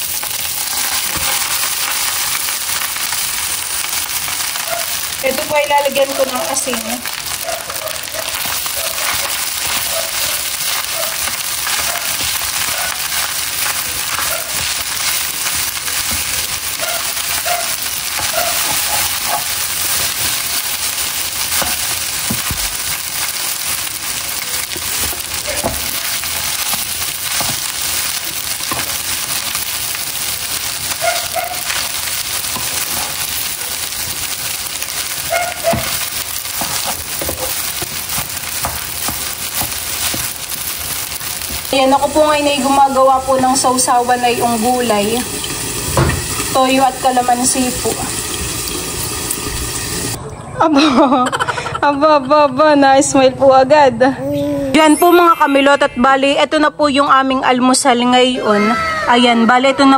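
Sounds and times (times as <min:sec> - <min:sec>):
rice sizzling in a pan: 0:00.0 - 0:50.2.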